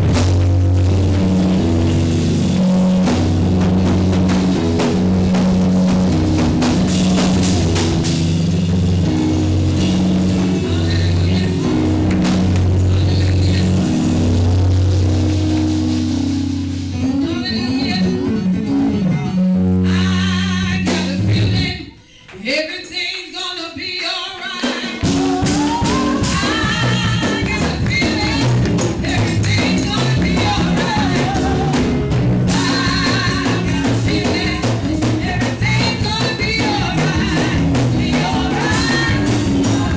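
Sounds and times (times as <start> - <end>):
upbeat gospel music: 0.0 - 39.9.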